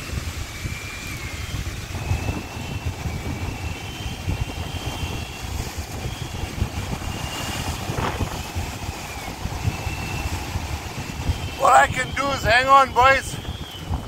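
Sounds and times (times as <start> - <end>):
fishing reel drag whine: 0.0 - 14.0
surf washing over rocks: 0.0 - 14.0
wind buffeting microphone: 0.0 - 14.0.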